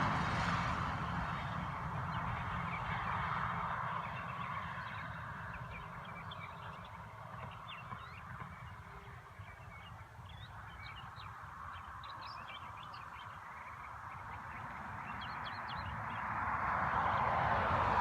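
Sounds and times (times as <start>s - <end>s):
birds chirping: 1.3s - 16.4s.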